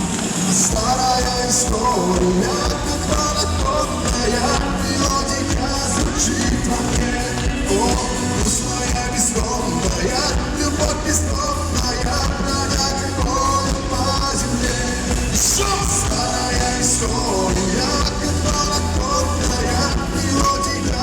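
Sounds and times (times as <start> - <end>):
pop-rock band playing a ballad: 0.0 - 21.0
person singing: 0.4 - 21.0.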